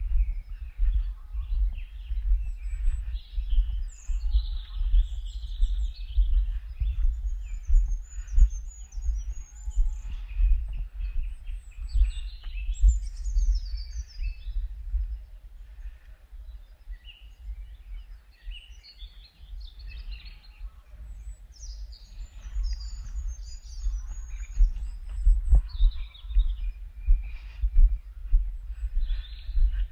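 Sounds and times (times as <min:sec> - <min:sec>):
low rumble on microphone: 0:00.0 - 0:29.9
songbirds chirping and singing: 0:00.0 - 0:29.9.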